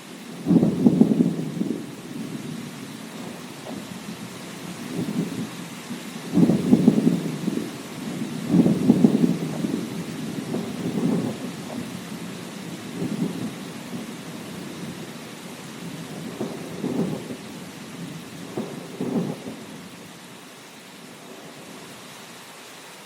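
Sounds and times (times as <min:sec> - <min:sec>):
steady rain: 0:00.0 - 0:23.0
thunder rumbling: 0:00.4 - 0:20.3.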